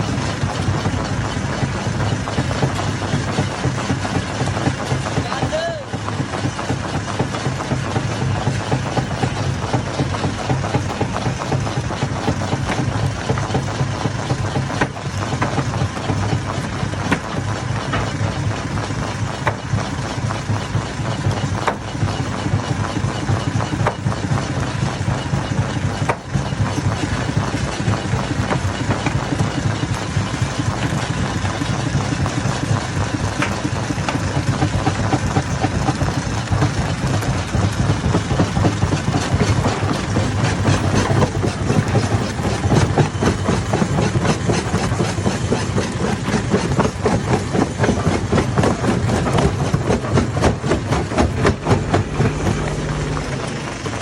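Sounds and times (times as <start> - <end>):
stone crusher running: 0.0 - 54.0.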